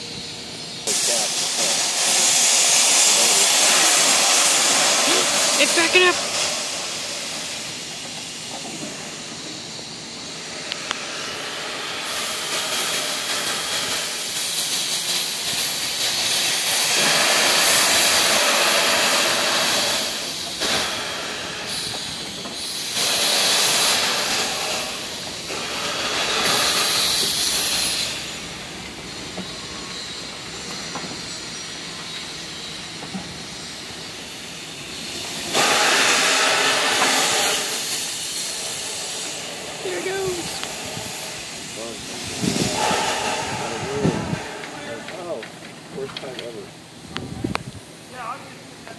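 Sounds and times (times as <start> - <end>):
loud steam blasts: 0.0 - 48.9
steam locomotive hissing: 0.0 - 48.9.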